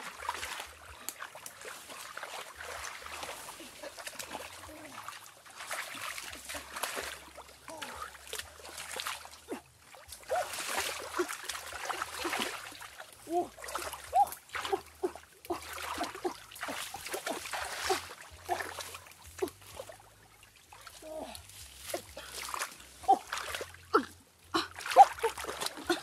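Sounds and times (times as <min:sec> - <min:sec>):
hands splashing in stream water: 0:00.0 - 0:23.9.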